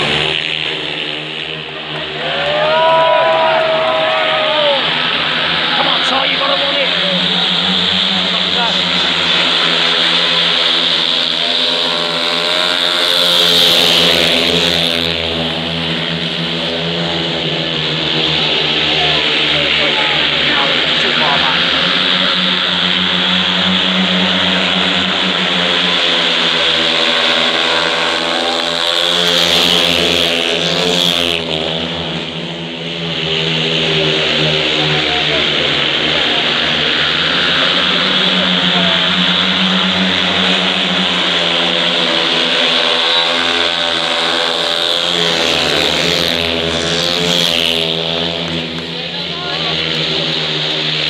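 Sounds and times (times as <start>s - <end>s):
motorbikes racing past: 0.0s - 51.0s.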